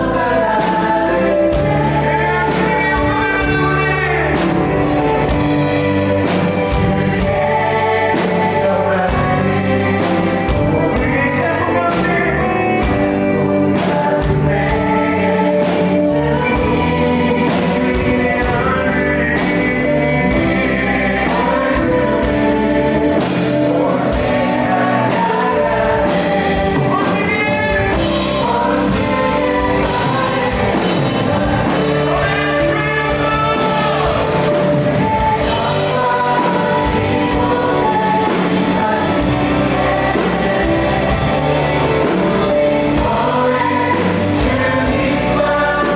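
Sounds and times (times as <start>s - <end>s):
bass guitar: 0.0s - 45.9s
electric guitars: 0.0s - 45.9s
singers in unison: 0.0s - 45.9s
steady drum beat: 0.0s - 45.9s.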